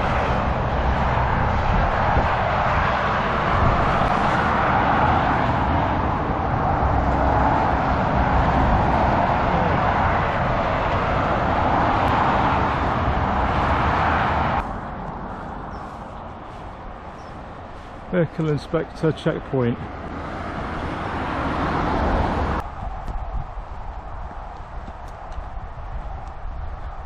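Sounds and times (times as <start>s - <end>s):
motorway traffic rushing: 0.0s - 27.0s.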